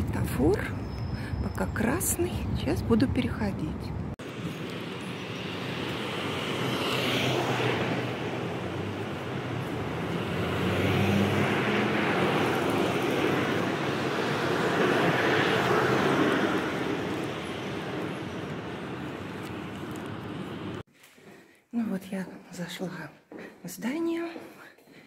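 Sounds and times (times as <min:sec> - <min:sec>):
vehicles driving past: 0:00.0 - 0:20.8.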